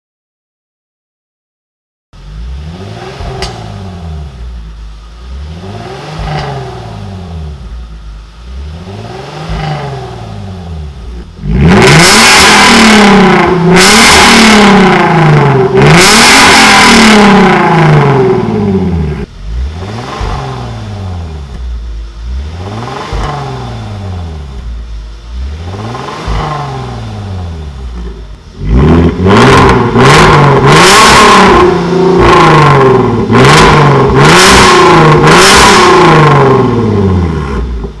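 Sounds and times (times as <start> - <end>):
car engine revving: 2.2 - 38.0.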